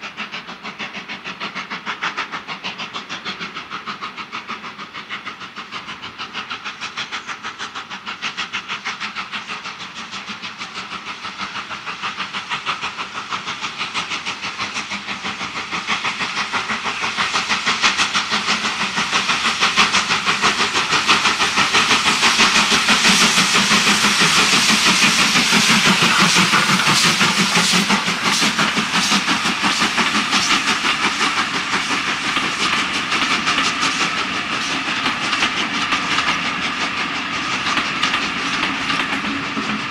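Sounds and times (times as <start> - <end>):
steam locomotive chuffing: 0.0 - 39.9.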